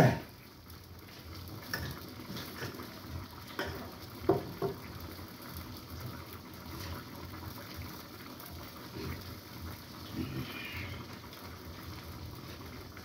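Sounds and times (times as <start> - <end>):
stew simmering in a pan: 0.0 - 13.0.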